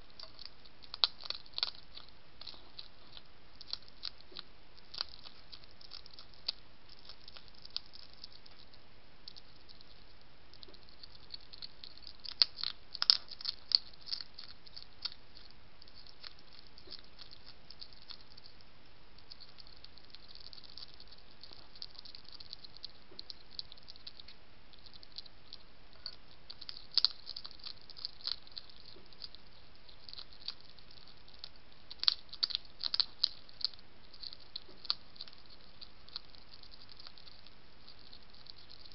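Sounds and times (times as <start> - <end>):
hedgehog crunching dry food: 0.0 - 38.9.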